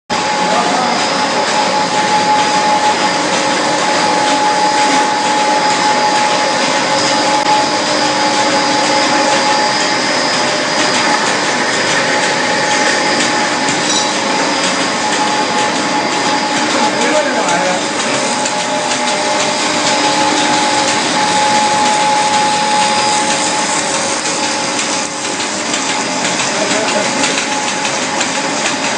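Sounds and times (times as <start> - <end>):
constant machine whine: 0.1 - 28.9
loud mechanical din: 0.1 - 28.9.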